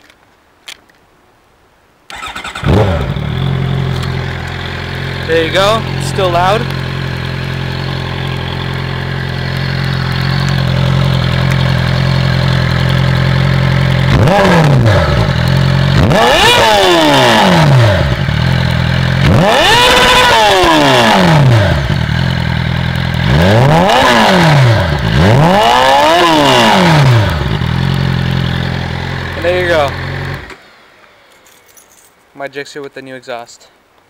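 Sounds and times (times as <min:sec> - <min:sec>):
motorcycle engine idling and revving: 0:02.1 - 0:31.9.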